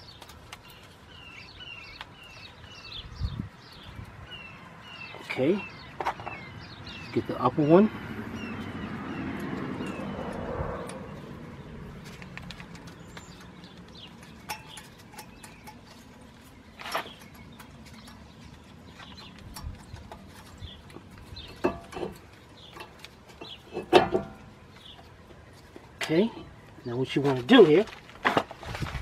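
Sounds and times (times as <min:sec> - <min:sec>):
birds calling: 0:00.0 - 0:27.8.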